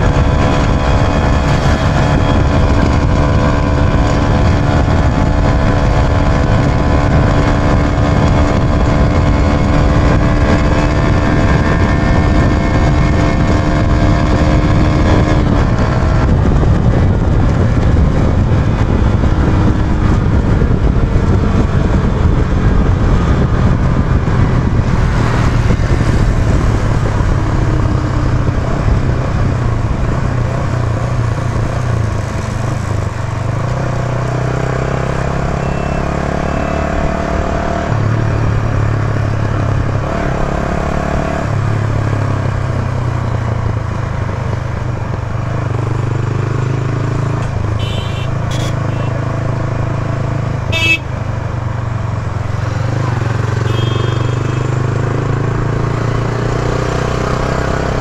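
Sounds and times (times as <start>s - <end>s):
motorcycle engine running: 0.0s - 58.0s
road noise: 0.0s - 58.0s
wind rumble on microphone: 0.0s - 58.0s.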